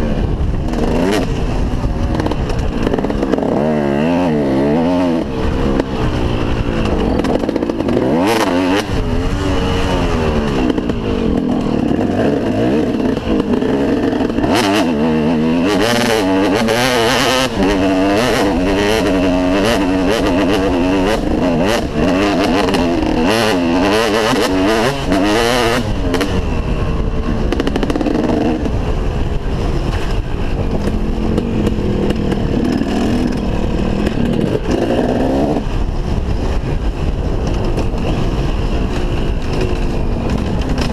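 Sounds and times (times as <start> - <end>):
motorcycle engine revving: 0.0 - 40.9
rushing noise: 0.0 - 40.9.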